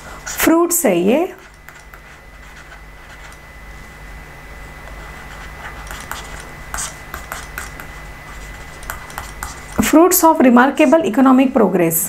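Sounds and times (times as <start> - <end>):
electrical hum: 0.0 - 12.0
thin high whine: 0.0 - 12.0.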